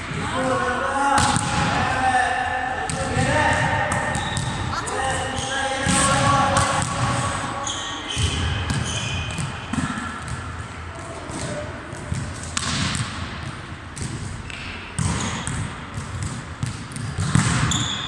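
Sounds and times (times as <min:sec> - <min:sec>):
volleyballs struck and bouncing: 0:01.2 - 0:02.0, 0:02.8 - 0:18.0.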